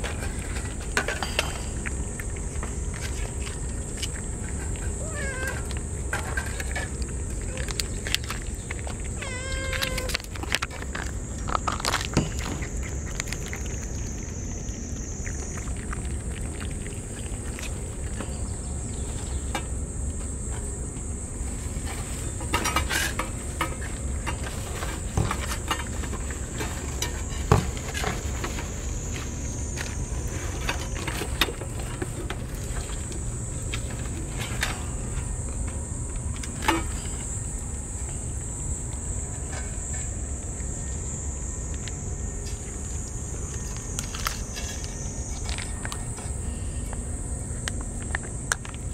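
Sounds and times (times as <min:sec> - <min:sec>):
cats eating from metal dish: 0:00.0 - 0:48.9
insect drone: 0:00.0 - 0:48.9
low background rumble: 0:00.0 - 0:48.9.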